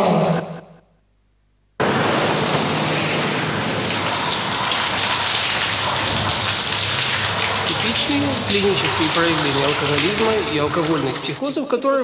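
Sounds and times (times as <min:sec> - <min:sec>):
loud rain-like hiss: 0:01.8 - 0:11.4.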